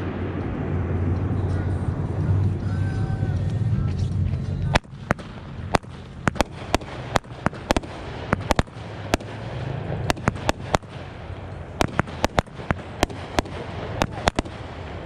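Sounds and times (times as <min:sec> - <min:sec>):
fireworks popping: 0:00.0 - 0:15.0.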